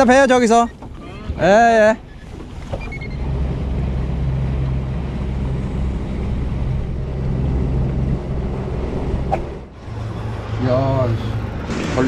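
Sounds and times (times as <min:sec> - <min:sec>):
wind and water rushing: 0:00.0 - 0:11.8
outboard motor humming: 0:00.8 - 0:10.6.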